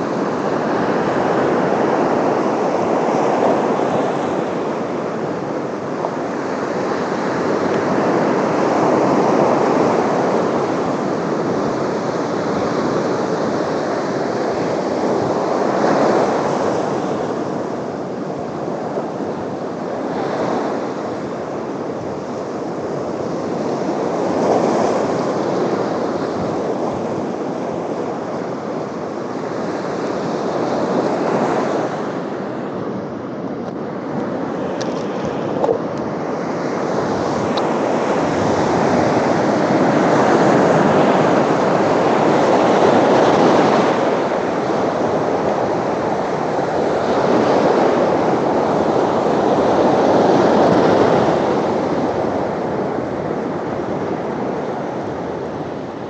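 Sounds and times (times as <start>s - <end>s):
wind and water rushing: 0.0s - 56.0s.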